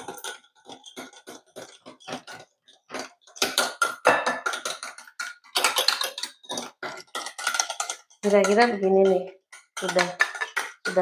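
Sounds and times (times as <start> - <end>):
whisk scraping a ceramic bowl: 0.0 - 11.0.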